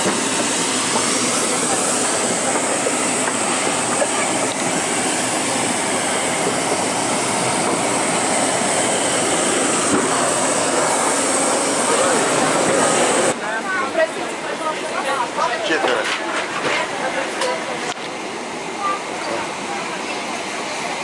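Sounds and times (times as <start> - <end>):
airliner cabin airflow and engine noise: 0.0 - 21.0.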